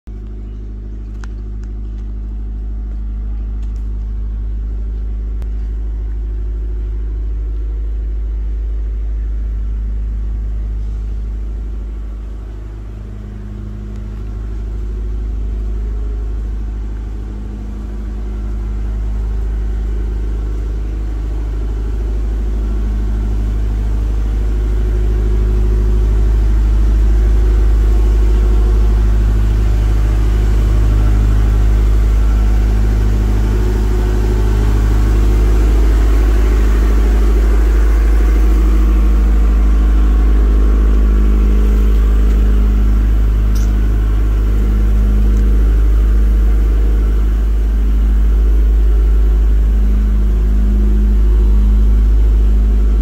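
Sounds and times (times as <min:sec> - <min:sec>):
low engine hum: 0:00.0 - 0:53.0.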